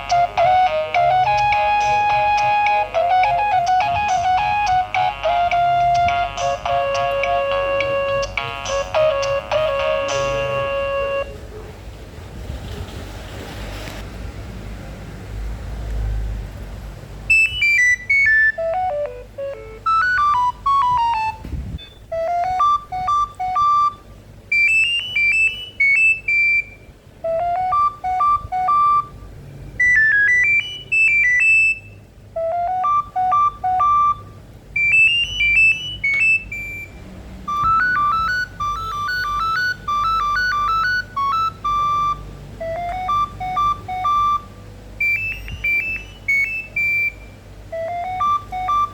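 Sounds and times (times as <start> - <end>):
phone ringtone beeping melody: 0.0 - 11.4, 17.3 - 48.9.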